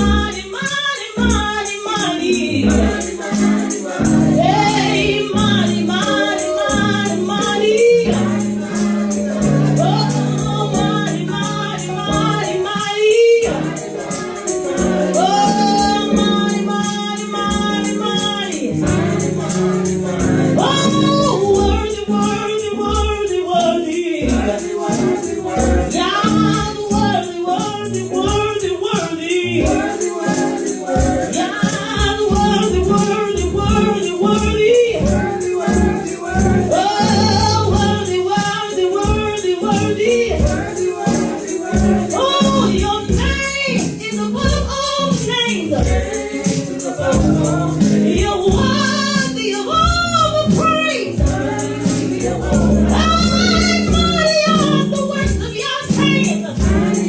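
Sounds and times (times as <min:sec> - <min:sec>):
gospel singing with band: 0:00.0 - 0:57.0.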